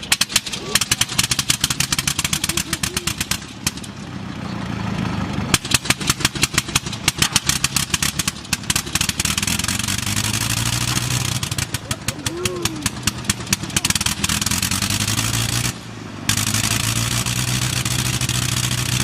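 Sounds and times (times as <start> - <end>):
aircraft engine popping irregularly: 0.0 - 4.2, 5.5 - 19.0
low steady engine drone: 0.0 - 19.0.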